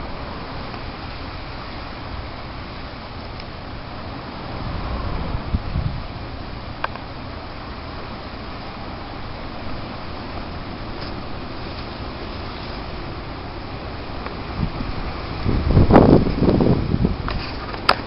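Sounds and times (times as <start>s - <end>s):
blizzard wind: 0.0s - 18.0s
wind rumble on microphone: 0.0s - 18.0s.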